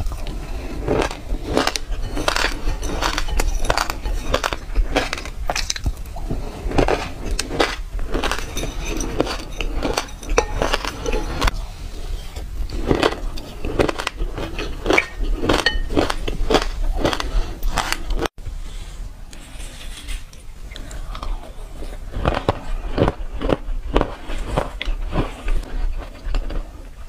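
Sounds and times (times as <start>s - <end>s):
crunching and chewing nuts: 0.0s - 11.6s, 12.4s - 18.3s, 20.7s - 27.0s.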